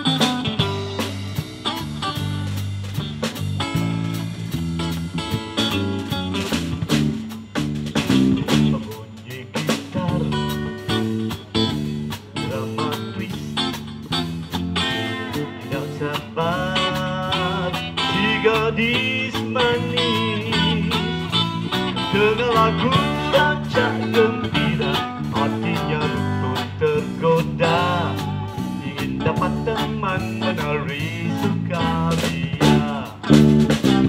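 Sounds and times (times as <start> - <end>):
live electric band playing: 0.0 - 34.0.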